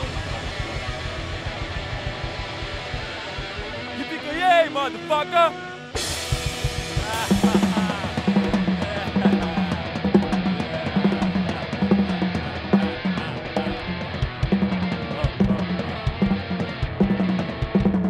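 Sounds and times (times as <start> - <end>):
drum kit beat: 0.0 - 18.0
instrumental rock band: 0.0 - 18.0.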